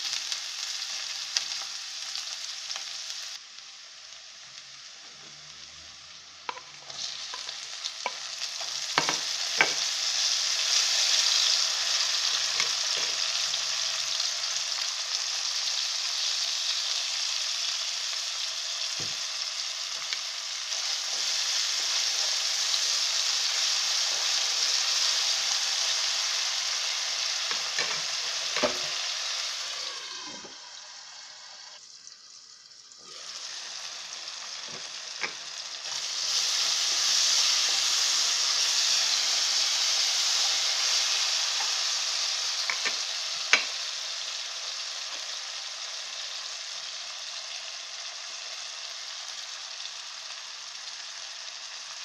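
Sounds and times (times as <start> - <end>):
vegetables sizzling in hot oil: 0.0 - 52.0.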